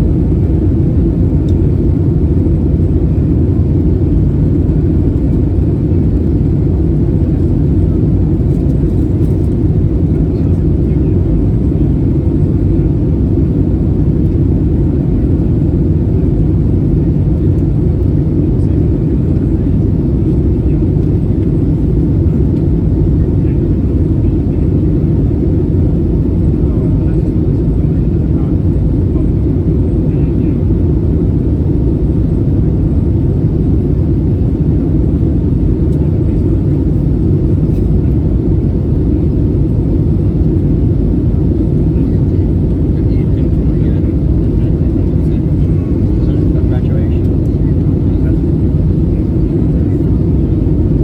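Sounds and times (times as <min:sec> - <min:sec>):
aircraft cabin rumble: 0:00.0 - 0:51.0.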